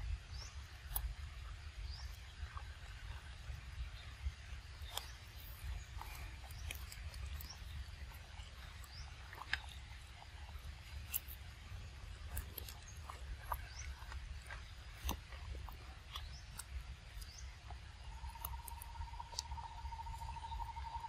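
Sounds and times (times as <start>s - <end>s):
faint bird chirps: 0.0s - 21.0s
monkey chewing fruit: 0.3s - 21.0s.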